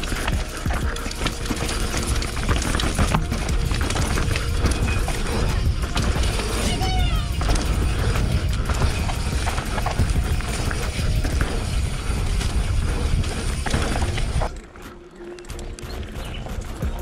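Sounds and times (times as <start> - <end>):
bike tyres rumbling over rock: 0.0 - 14.8.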